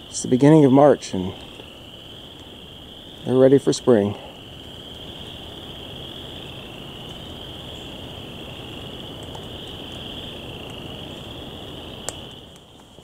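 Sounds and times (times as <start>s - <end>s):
frogs calling in chorus: 0.0s - 12.6s
low hiss: 0.0s - 13.0s.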